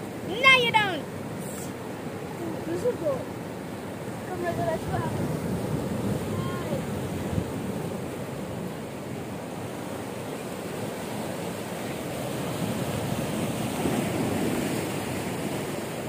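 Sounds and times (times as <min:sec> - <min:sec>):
waves breaking over rocks: 0:00.0 - 0:16.0.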